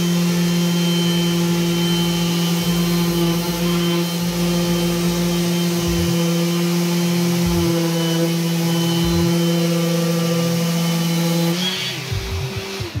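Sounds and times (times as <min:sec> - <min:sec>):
orbital sander sanding wood: 0:00.0 - 0:13.0.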